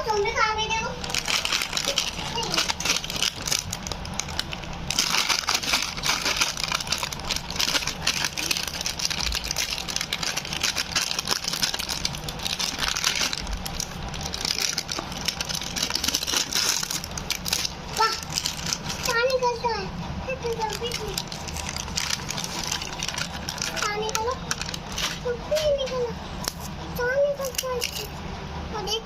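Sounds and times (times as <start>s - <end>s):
plastic wrapper crinkling: 0.1s - 19.4s, 20.4s - 25.8s.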